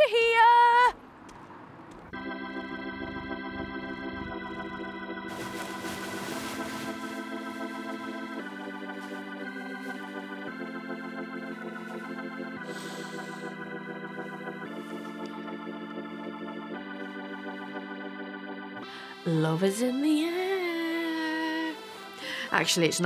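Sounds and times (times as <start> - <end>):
organ-like keyboard chords: 2.0 - 23.0.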